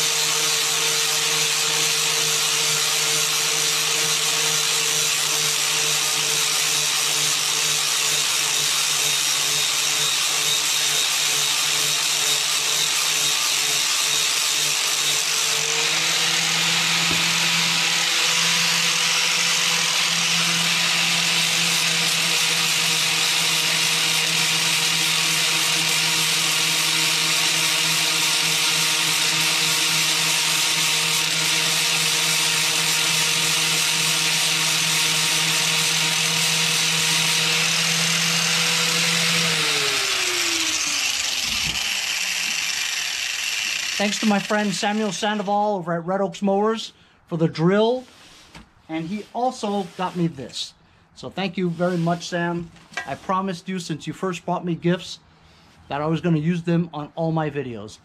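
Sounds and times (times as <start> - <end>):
power drill grinding rust: 0.0 - 45.7, 47.9 - 50.6, 51.4 - 53.6.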